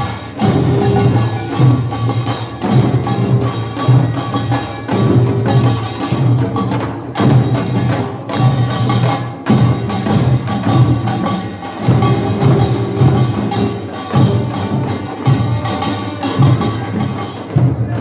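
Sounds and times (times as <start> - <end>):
gongs and drums playing rhythm: 0.0 - 18.0.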